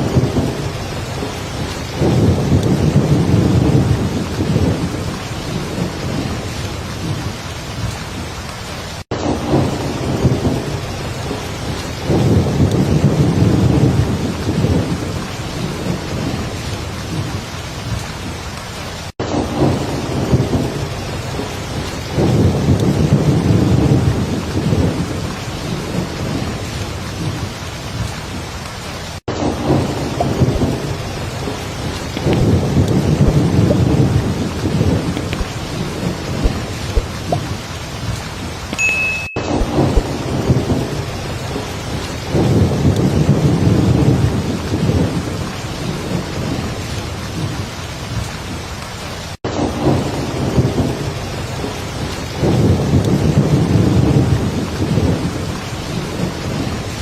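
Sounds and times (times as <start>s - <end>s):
thunder rumbling: 0.0s - 38.7s, 39.4s - 48.8s, 49.5s - 57.0s
heavy rain falling: 0.0s - 57.0s.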